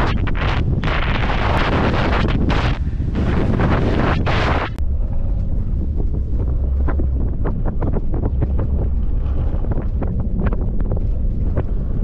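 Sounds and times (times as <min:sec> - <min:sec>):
crackles and knocks: 0:00.0 - 0:12.0
wind buffeting microphone: 0:00.0 - 0:12.0.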